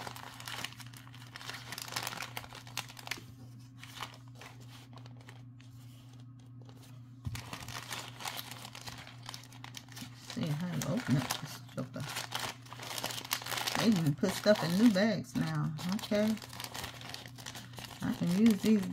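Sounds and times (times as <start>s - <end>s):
plastic bags crinkling: 0.0s - 18.9s.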